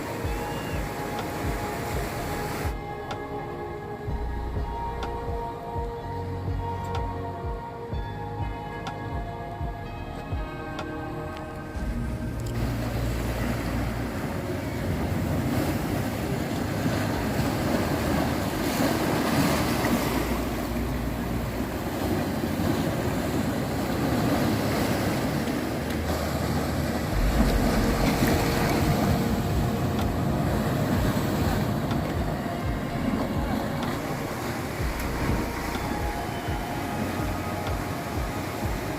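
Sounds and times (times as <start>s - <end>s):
sea waves breaking over rocks: 0.0s - 8.0s, 10.2s - 38.9s
wind rumbling on microphone: 0.0s - 38.9s.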